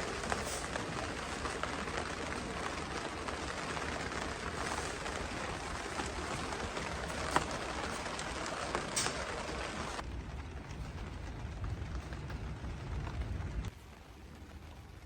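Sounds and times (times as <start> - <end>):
sharp raindrop ticks: 0.0 - 15.0
steady rain falling: 0.0 - 15.0.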